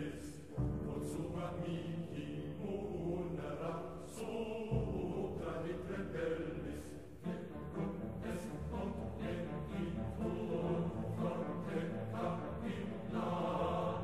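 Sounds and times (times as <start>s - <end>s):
chant-like singing: 0.0s - 14.0s.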